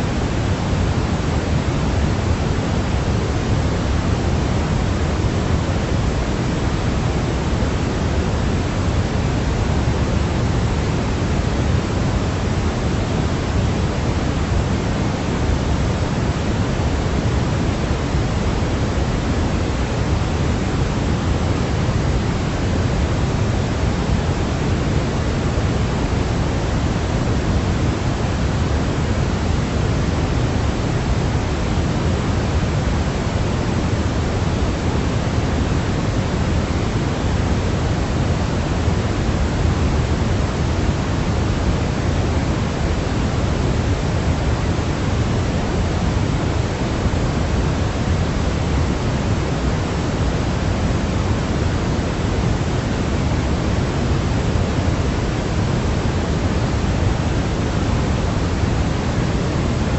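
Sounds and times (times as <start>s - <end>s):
steady low hiss noise: 0.0s - 59.9s.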